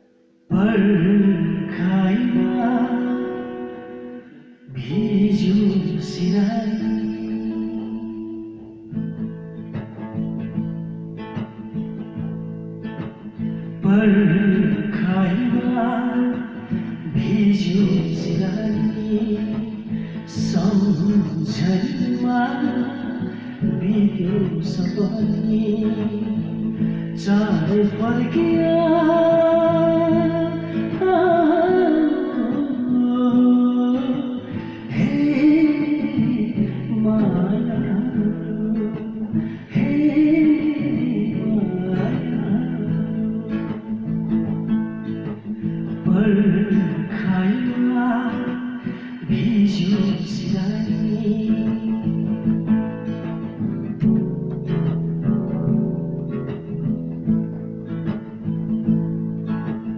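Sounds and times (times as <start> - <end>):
person singing: 0.0 - 10.8, 11.4 - 55.8
acoustic guitar strumming: 0.0 - 59.9.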